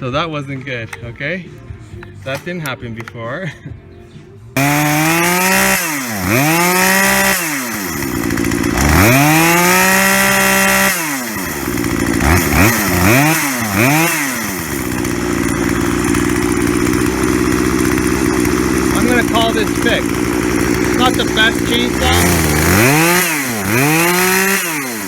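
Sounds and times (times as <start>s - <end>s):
chainsaw engine revving: 4.6s - 25.0s.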